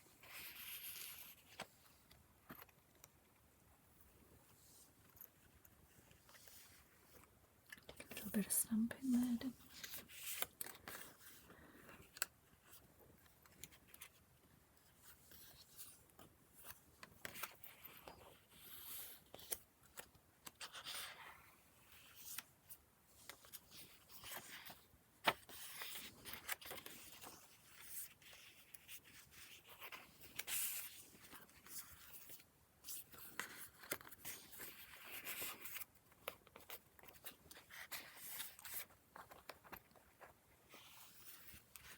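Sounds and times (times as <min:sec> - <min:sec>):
paper pages rustling and turning: 0:00.2 - 0:03.1, 0:04.5 - 0:41.9.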